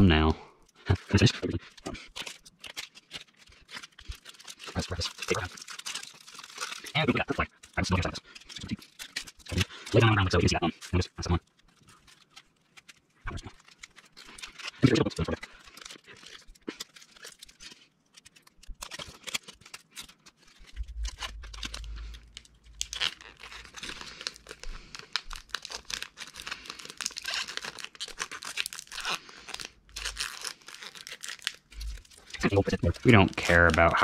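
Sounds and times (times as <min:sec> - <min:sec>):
straws and cardboard crinkling: 0:00.0 - 0:34.0
sticky tape pulled and torn: 0:01.0 - 0:34.0.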